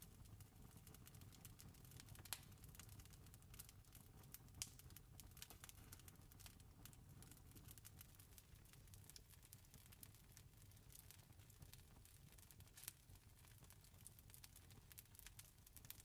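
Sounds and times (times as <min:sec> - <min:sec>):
campfire crackling: 0:00.2 - 0:16.0.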